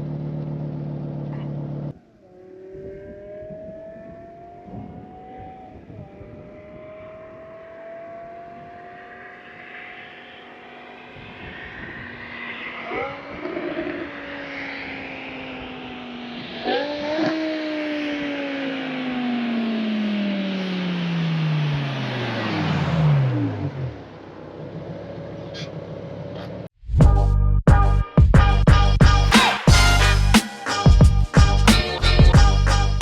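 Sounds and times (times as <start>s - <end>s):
car engine revving: 0.0s - 26.7s.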